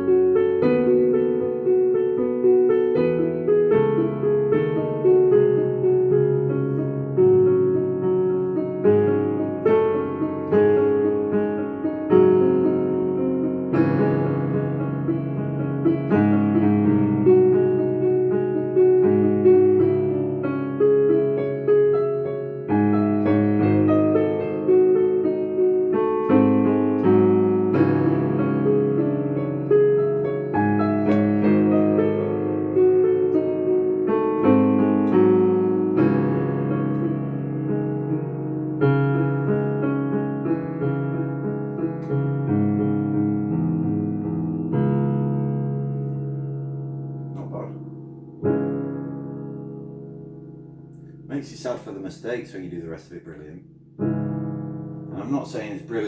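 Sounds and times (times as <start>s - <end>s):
piano playing slow chords: 0.0s - 56.0s.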